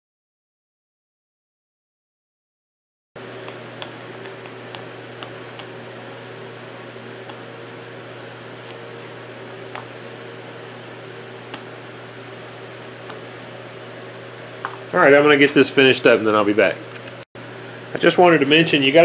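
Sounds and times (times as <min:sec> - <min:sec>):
low hum and hiss: 0:03.2 - 0:19.0.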